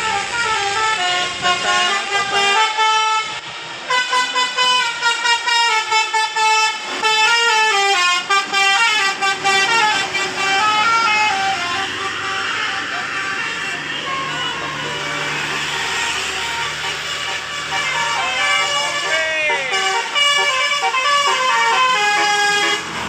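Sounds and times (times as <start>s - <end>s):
musical bus horn melody: 0.0s - 23.0s.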